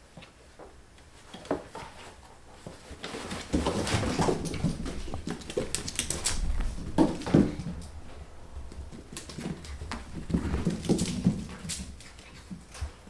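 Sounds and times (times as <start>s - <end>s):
cat paws thudding and scuffling: 1.1s - 13.0s.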